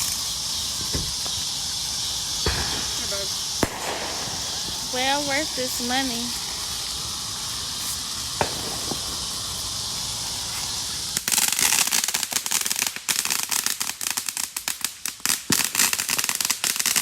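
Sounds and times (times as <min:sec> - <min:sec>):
firecracker pops crackling: 0:00.0 - 0:17.0
fireworks hissing: 0:00.0 - 0:17.0.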